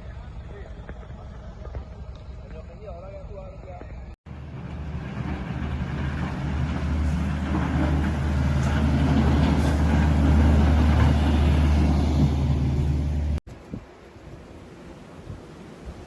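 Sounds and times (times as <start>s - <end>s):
heavy vehicle engine rumbling: 0.0s - 13.4s.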